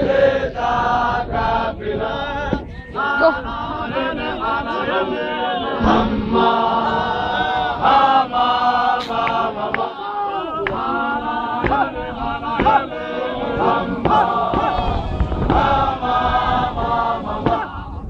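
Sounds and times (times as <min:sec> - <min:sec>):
men chanting and singing: 0:00.0 - 0:18.0.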